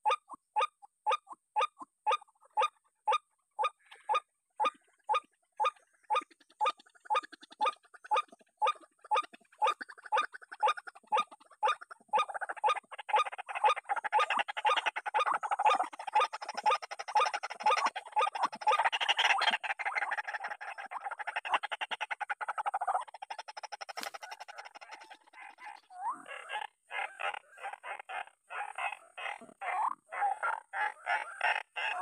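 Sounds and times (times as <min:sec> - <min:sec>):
bird harsh croaking calls: 0:02.1 - 0:32.0.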